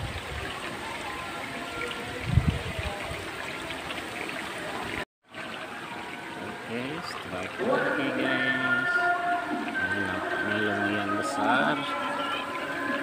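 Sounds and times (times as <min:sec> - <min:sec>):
running trickling water: 0:00.0 - 0:13.0.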